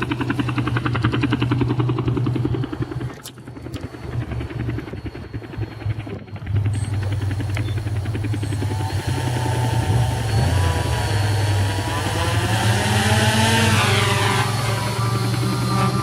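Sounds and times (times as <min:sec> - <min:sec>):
motor whine: 0:00.0 - 0:16.0
quadcopter drone chopping: 0:00.0 - 0:16.0.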